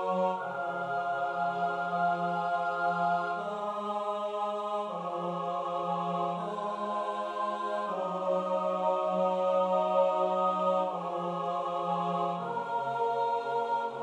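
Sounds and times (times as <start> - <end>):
choir singing slow chords: 0.0 - 14.0.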